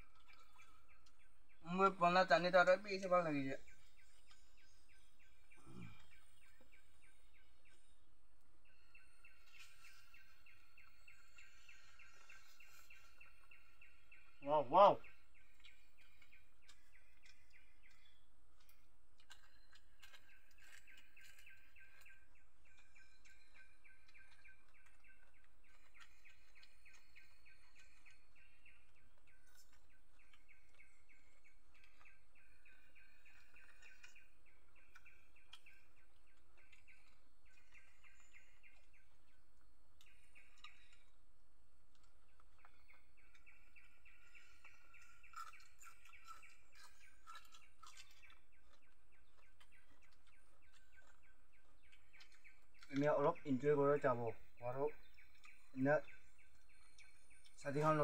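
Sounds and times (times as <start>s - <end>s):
birds chirping in trills: 0.0s - 58.0s.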